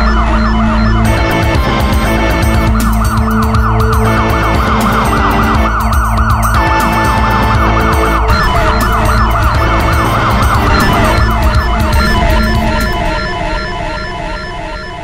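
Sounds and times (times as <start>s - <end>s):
electronic music with bass beat: 0.0s - 14.9s
police siren ringtone: 0.0s - 15.0s.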